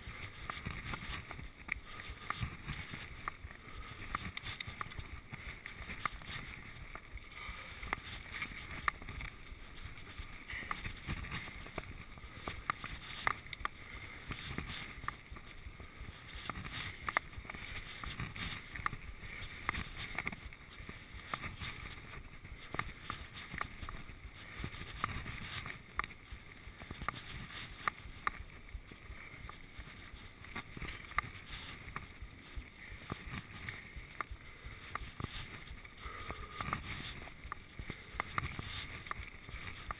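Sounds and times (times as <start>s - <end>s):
bike rattling over bumps: 0.0s - 39.9s
bike tyres rumbling on dirt: 0.0s - 39.9s.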